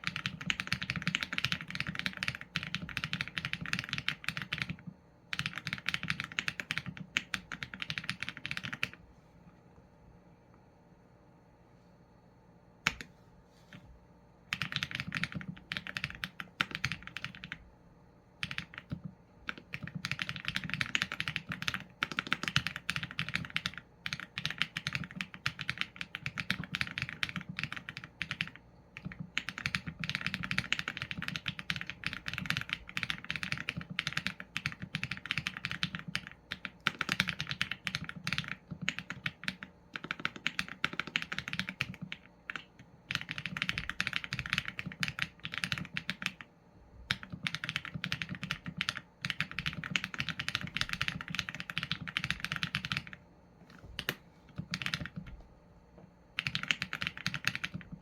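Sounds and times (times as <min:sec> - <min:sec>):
mechanical keyboard typing: 0:00.0 - 0:09.0, 0:14.5 - 0:17.6, 0:18.4 - 0:46.5, 0:47.1 - 0:53.2, 0:54.0 - 0:55.4, 0:56.4 - 0:58.0.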